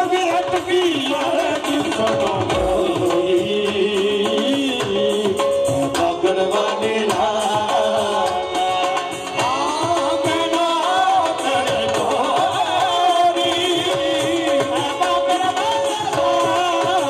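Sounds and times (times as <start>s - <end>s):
hand drum: 0.0s - 17.0s
instrumental accompaniment: 0.0s - 17.0s
person singing: 0.0s - 17.0s.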